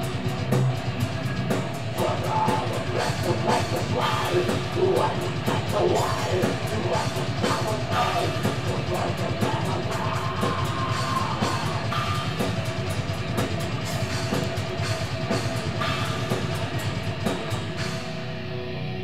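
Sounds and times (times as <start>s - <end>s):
drum kit: 0.0s - 18.5s
electric guitar chords: 0.0s - 19.0s.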